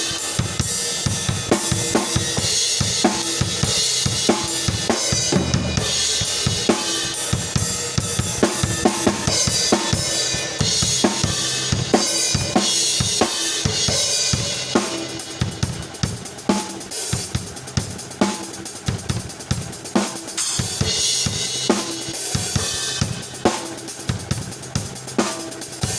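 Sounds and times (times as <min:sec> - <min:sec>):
drum kit playing a beat: 0:00.0 - 0:25.9.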